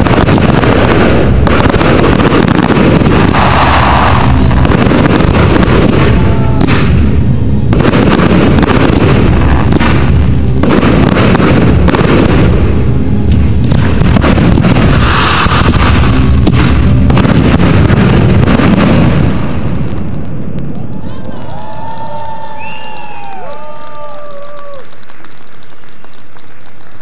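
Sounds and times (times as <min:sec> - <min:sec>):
fireworks bangs and crackle: 0:00.0 - 0:27.0.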